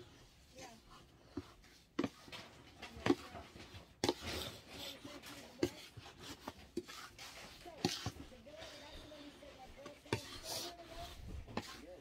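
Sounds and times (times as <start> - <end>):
scoop scraping laundry powder: 0.0 - 12.0.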